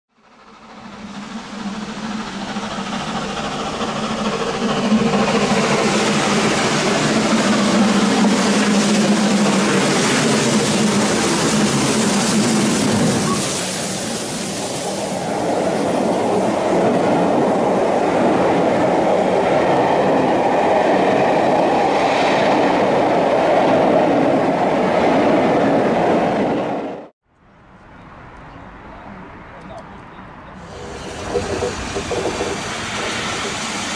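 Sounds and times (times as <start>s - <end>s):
train coaches rolling past: 0.2s - 27.1s, 27.7s - 33.9s.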